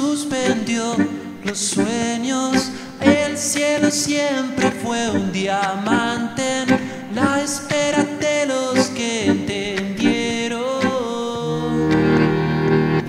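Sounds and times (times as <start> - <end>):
man singing into microphone: 0.0 - 12.2
bandoneon: 0.2 - 13.0.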